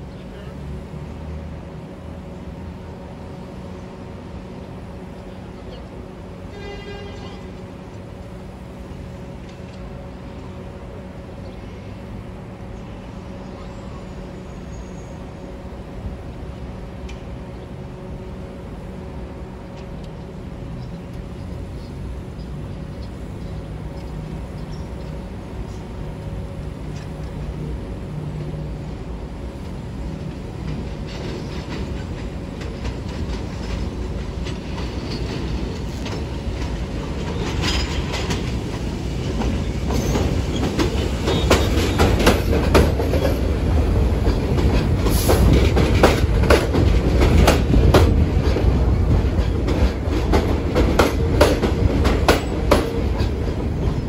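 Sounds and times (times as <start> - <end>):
subway train wheels clattering: 0.0 - 54.0
train rumble: 0.0 - 54.0.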